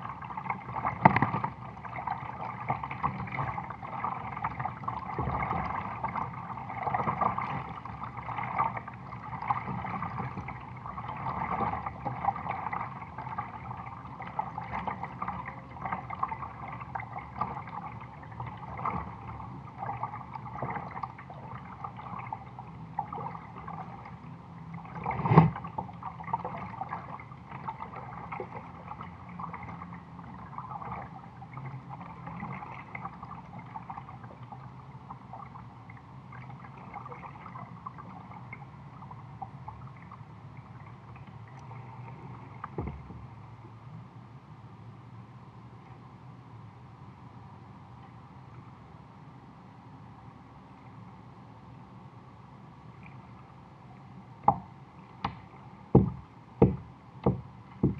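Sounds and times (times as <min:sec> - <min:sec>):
water lapping against kayak hull: 0:00.0 - 0:43.7, 0:53.0 - 0:57.9.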